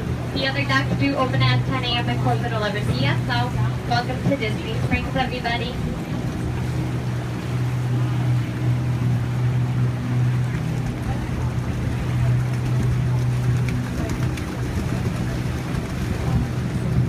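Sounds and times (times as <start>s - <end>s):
boat engine drone: 0.0s - 17.0s
rushing water and air: 0.0s - 17.0s.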